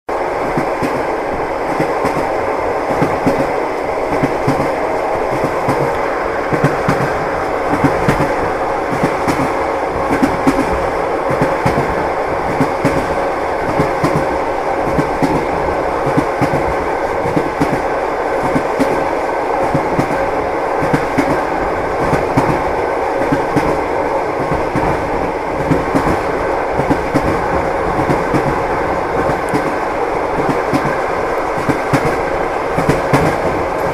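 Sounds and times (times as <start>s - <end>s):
train rumble: 0.1s - 33.9s
train wheels clattering on rails: 0.1s - 33.9s.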